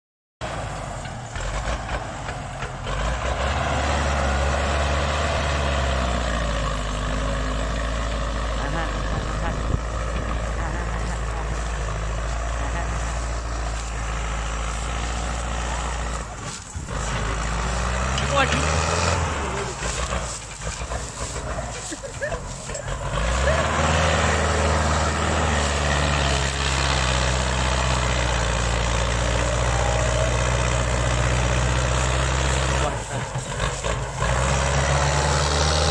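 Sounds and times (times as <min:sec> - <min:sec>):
tractor diesel engine under load: 0:00.4 - 0:35.9.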